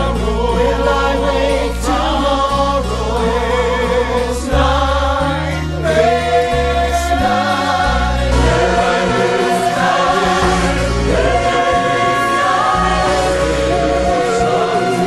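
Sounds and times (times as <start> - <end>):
bass line: 0.0 - 15.0
choir singing slow song: 0.0 - 15.0.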